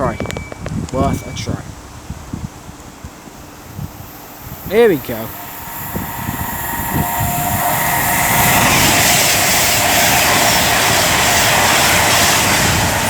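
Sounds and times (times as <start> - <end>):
electric train passing: 1.8 - 13.0.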